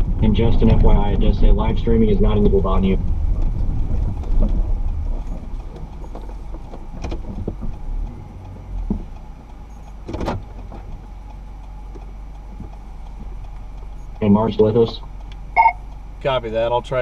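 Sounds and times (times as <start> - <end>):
low vehicle cabin rumble: 0.0 - 17.0.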